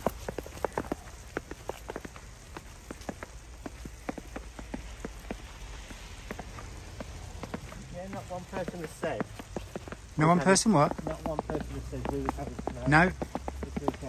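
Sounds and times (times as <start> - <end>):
boots crunching through snow: 0.0 - 14.0.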